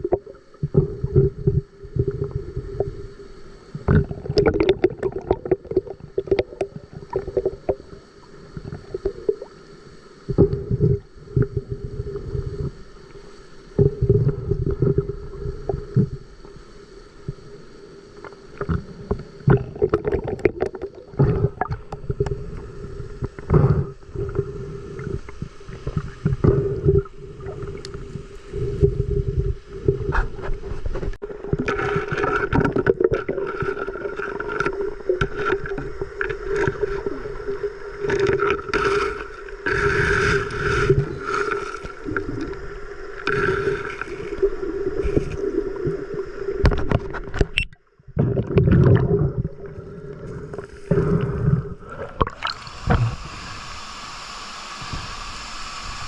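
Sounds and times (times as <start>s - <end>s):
water sloshing and bubbling: 0.0s - 56.0s.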